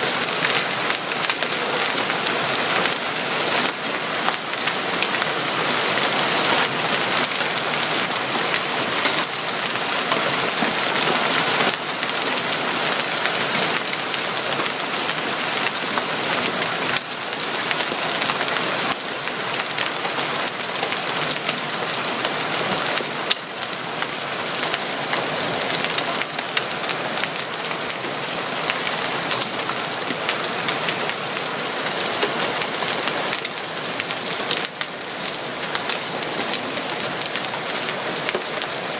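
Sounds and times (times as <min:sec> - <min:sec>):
hailstones and rain pelting down: 0:00.0 - 0:38.9.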